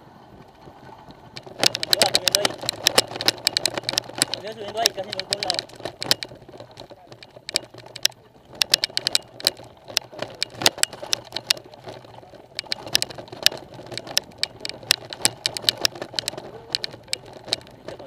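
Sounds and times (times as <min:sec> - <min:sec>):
tyres rumbling on dirt: 0:00.0 - 0:18.0
bike clicks and knocks: 0:00.7 - 0:18.0.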